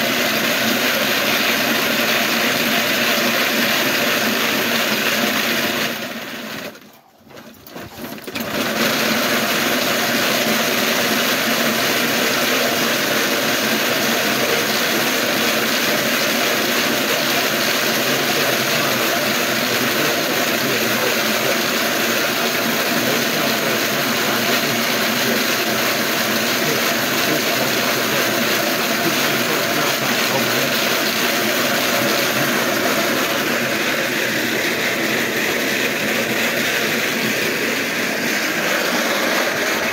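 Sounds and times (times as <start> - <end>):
wooden slat mill running: 0.0 - 39.9.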